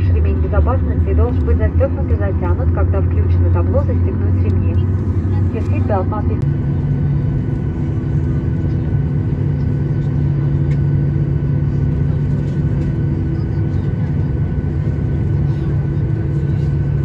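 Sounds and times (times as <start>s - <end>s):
aircraft cabin engine drone: 0.0s - 17.0s.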